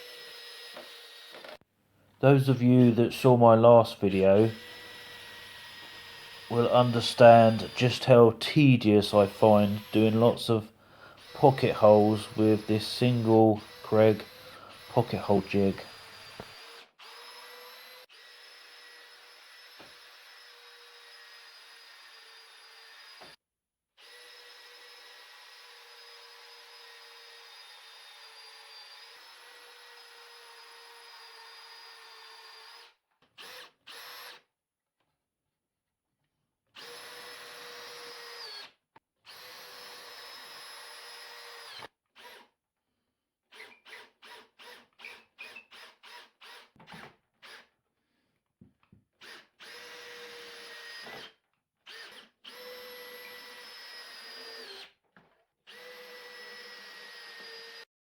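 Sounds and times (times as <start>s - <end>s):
power drill boring holes: 0.0s - 1.6s, 4.1s - 23.4s, 24.0s - 34.5s, 36.7s - 42.5s, 43.5s - 47.8s, 49.2s - 55.0s, 55.7s - 57.9s.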